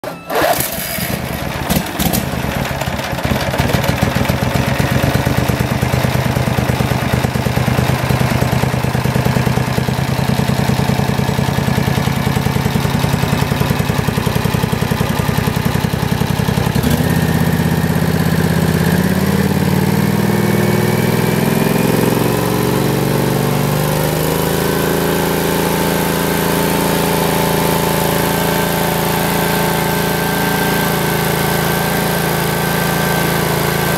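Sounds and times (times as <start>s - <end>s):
lawn tractor engine running: 0.0s - 33.9s.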